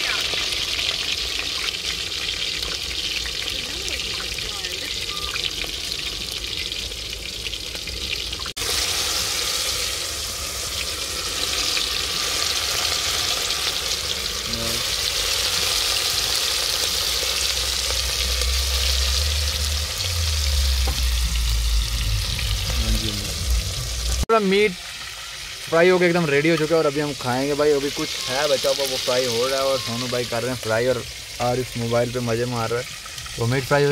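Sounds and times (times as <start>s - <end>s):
meat sizzling in oil: 0.0s - 33.9s.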